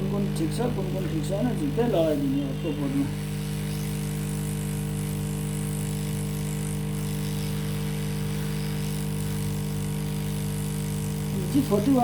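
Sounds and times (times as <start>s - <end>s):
hot air station hissing hum: 0.0s - 12.0s.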